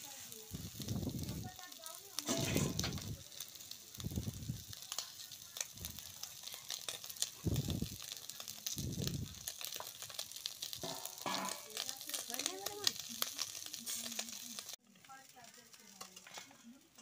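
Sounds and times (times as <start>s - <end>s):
fish sizzling in oil: 0.0s - 17.0s
oil popping: 0.6s - 14.8s.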